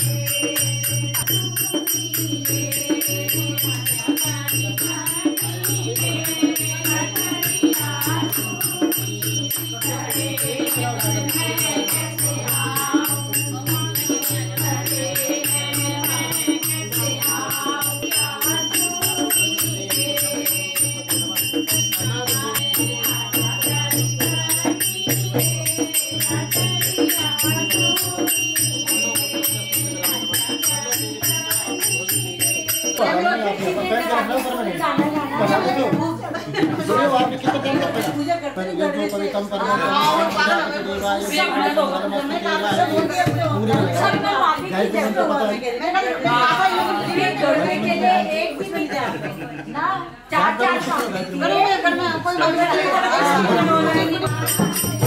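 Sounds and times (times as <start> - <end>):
group singing: 0.0 - 55.0
jingling percussion: 0.0 - 55.0.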